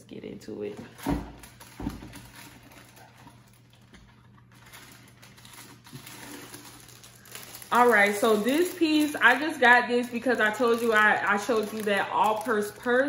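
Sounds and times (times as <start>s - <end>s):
rustling of packaged items: 0.7s - 13.0s.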